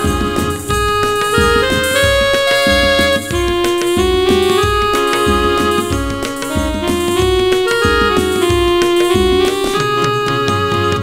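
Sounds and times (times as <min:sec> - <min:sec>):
electronic keyboard melody: 0:00.0 - 0:11.0
hand percussion beat: 0:00.0 - 0:11.0.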